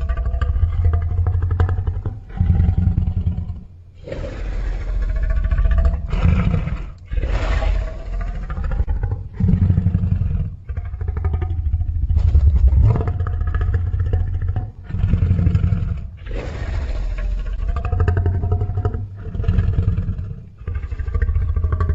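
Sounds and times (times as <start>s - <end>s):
deep monster roars: 0.0s - 21.9s.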